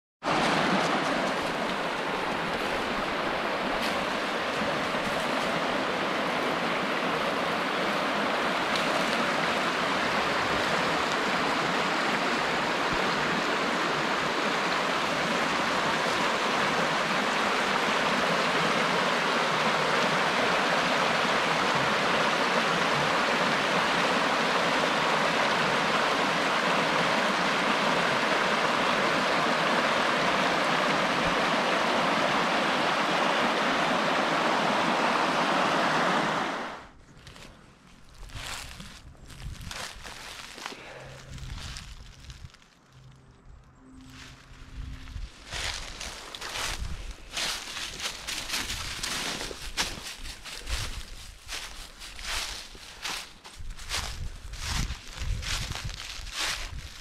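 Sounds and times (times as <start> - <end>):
creek rushing over stones: 0.2 - 42.9, 44.1 - 57.0.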